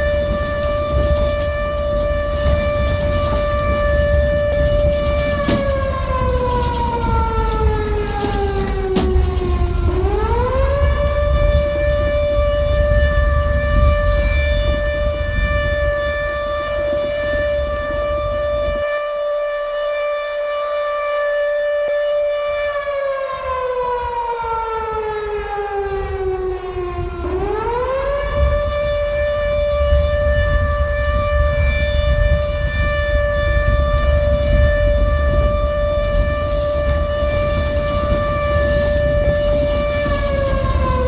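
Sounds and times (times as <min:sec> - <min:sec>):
siren wailing: 0:00.0 - 0:41.0.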